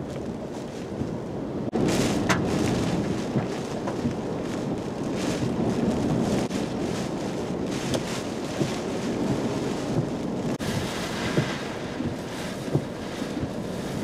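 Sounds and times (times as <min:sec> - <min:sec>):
strong wind buffeting microphone: 0:00.0 - 0:14.0
wind-driven rain: 0:00.0 - 0:14.0.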